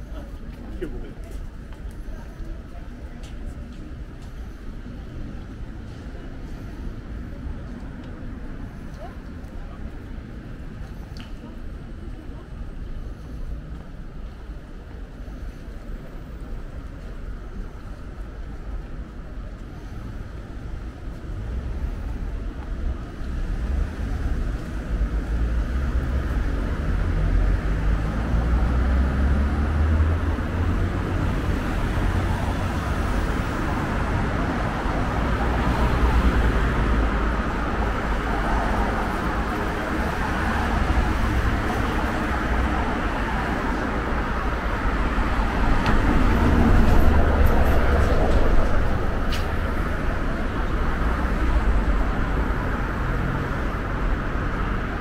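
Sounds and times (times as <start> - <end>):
rumble of road traffic: 0.0 - 55.0.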